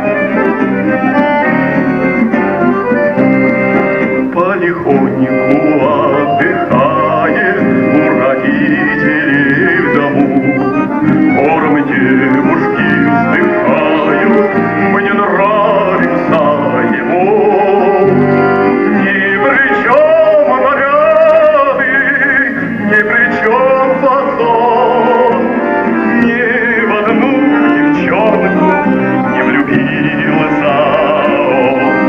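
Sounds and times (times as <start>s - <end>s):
instrumental accompaniment: 0.0s - 32.0s
man singing with vibrato: 4.1s - 32.0s.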